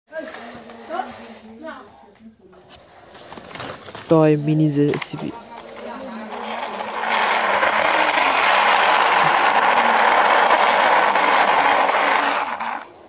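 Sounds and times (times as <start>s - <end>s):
plastic toy tracks grinding on concrete: 0.1s - 13.0s.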